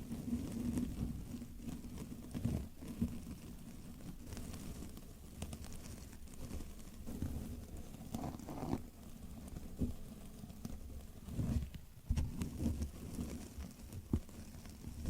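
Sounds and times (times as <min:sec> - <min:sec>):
soft tapping and handling noises: 0:00.0 - 0:15.0.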